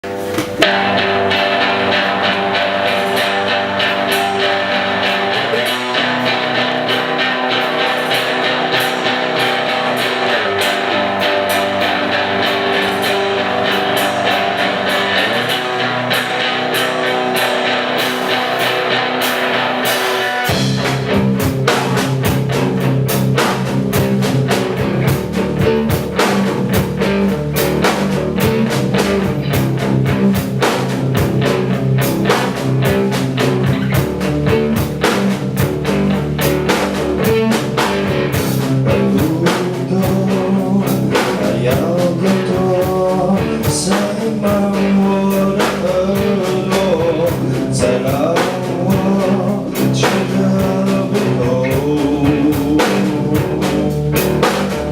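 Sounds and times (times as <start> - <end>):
bass guitar: 0.0 - 54.9
drums playing: 0.0 - 54.9
electric guitar: 0.0 - 54.9.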